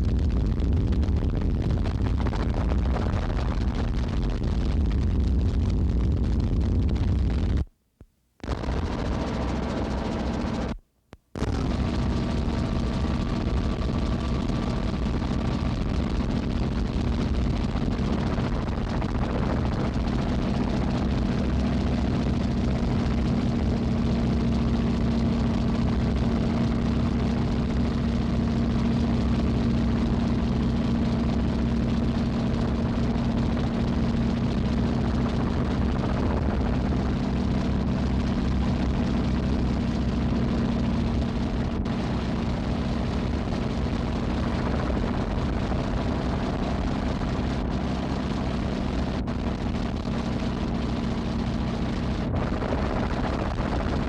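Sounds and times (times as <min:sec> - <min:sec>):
engine drone: 0:08.4 - 0:10.8, 0:11.4 - 0:54.0.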